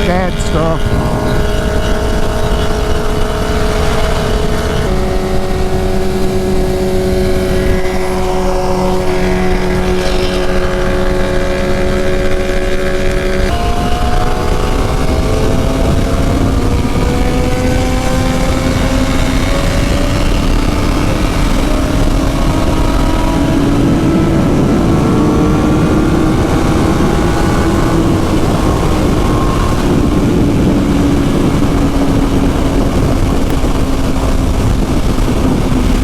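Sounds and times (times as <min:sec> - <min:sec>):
motorcycle engine cruising: 0:00.0 - 0:36.0
wind on microphone: 0:00.0 - 0:36.0.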